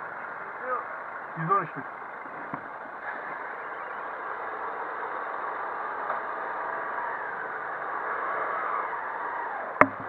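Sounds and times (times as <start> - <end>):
scooter engine droning: 0.0 - 10.0.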